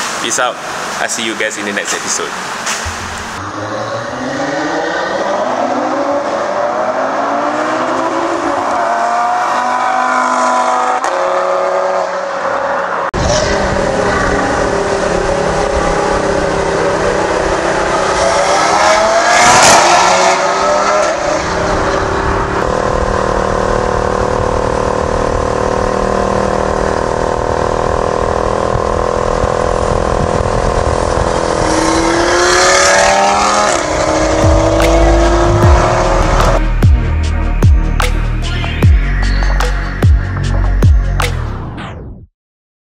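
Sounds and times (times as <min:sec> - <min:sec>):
car engine accelerating hard: 0:00.0 - 0:38.1.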